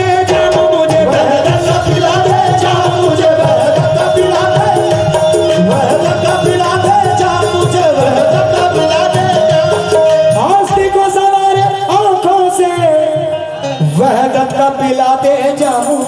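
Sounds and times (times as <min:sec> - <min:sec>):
harmonium: 0:00.0 - 0:16.0
lead singer holding long notes: 0:00.0 - 0:16.0
tabla: 0:00.0 - 0:16.0.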